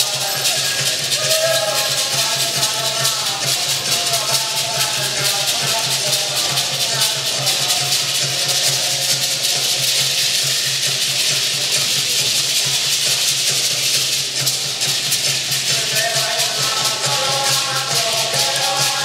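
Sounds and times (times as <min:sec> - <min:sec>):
rattles shaken rhythmically: 0:00.0 - 0:19.0.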